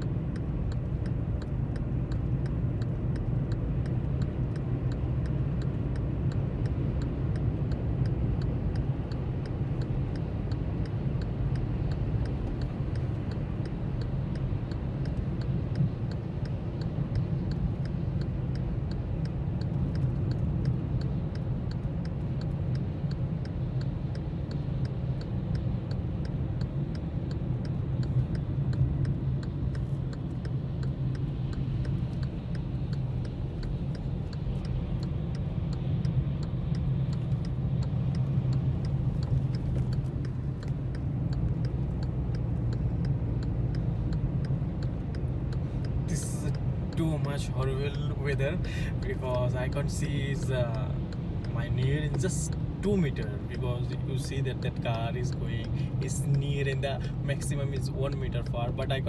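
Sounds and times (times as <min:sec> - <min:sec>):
car engine and road rumble: 0:00.0 - 0:59.0
light regular ticking: 0:00.0 - 0:59.0.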